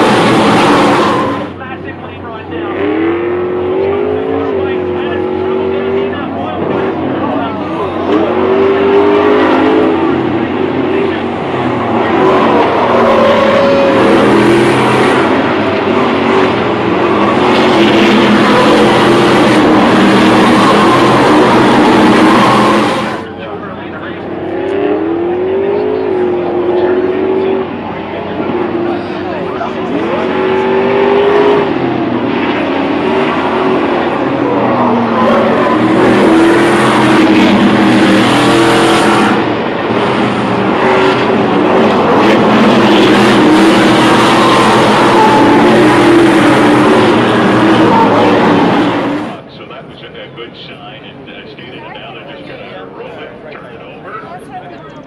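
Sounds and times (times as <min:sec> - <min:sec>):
racing truck engines roaring: 0:00.0 - 0:55.0.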